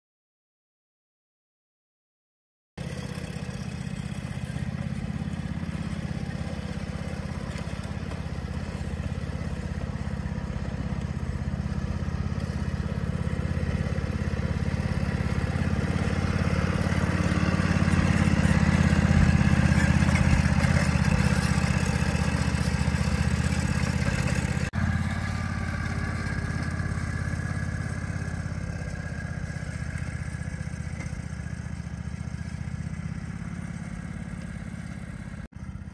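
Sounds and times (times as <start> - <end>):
utility vehicle engine running: 2.8 - 35.9.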